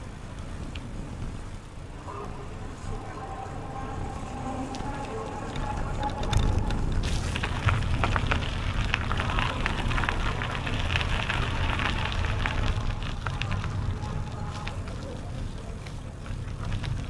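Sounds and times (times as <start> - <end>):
bicycle tyres crunching on gravel: 0.0 - 17.0
wind rumble on microphone: 0.0 - 17.0.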